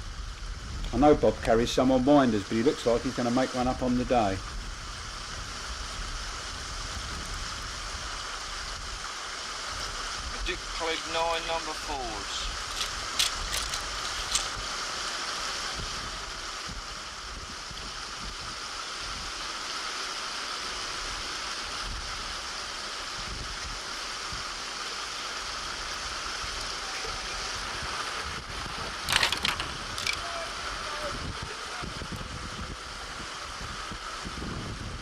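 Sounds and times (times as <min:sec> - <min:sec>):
water pouring over a weir: 0:00.1 - 0:35.0.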